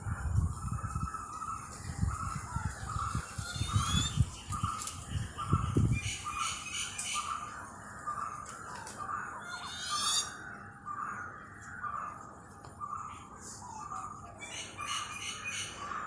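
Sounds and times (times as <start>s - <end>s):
birds chirping high: 0.0s - 16.0s.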